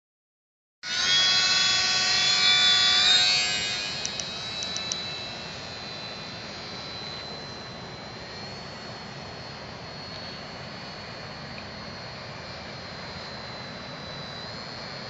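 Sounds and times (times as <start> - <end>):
model plane motor whining: 0.8 - 15.0.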